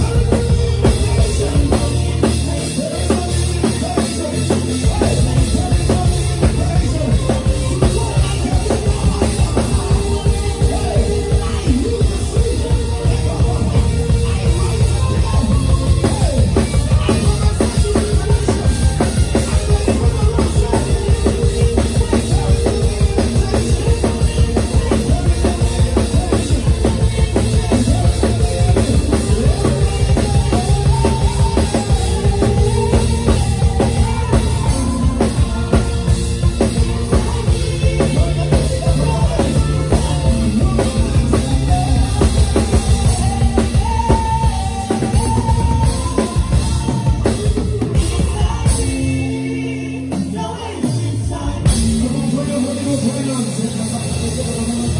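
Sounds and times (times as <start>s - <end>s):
bass drum beat: 0.0s - 54.9s
live band instrumental groove: 0.0s - 54.9s.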